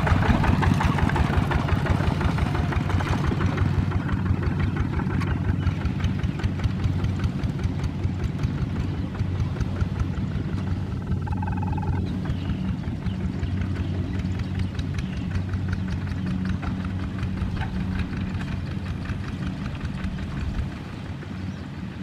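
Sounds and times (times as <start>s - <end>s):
diesel tractor engine chugging: 0.0s - 22.0s.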